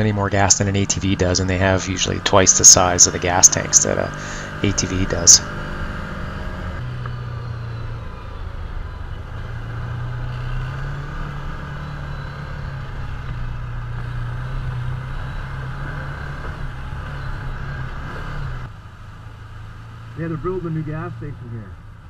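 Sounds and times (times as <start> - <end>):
vehicle engine droning: 0.0 - 22.0.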